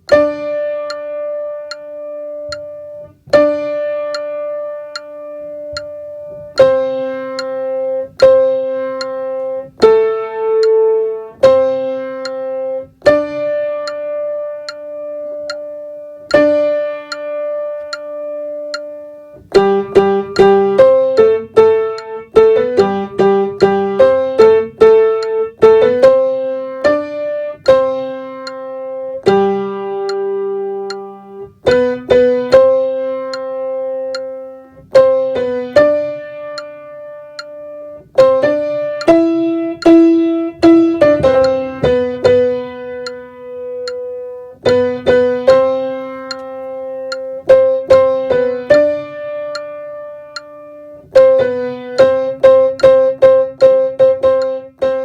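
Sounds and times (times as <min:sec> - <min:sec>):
piano-toned keyboard melody: 0:00.0 - 0:55.0.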